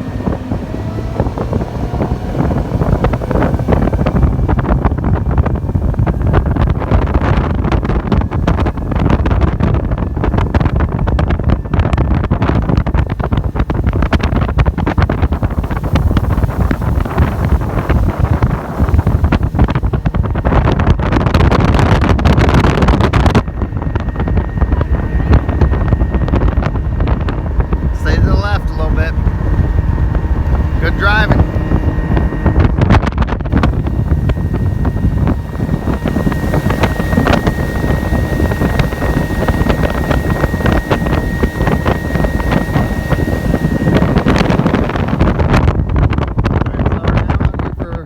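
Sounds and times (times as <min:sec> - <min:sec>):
boat motor running: 0:00.0 - 0:48.0
wind buffeting microphone: 0:00.0 - 0:48.0.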